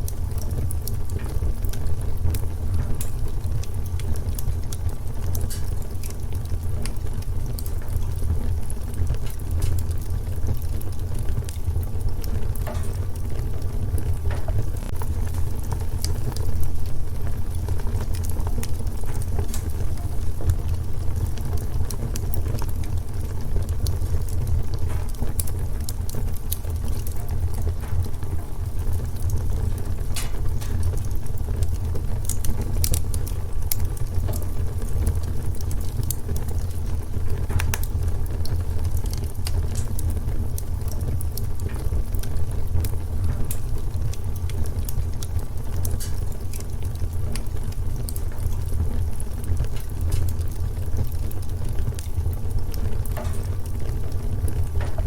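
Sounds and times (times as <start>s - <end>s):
low fire rumble: 0.0s - 55.0s
wood fire crackling and popping: 0.0s - 55.0s.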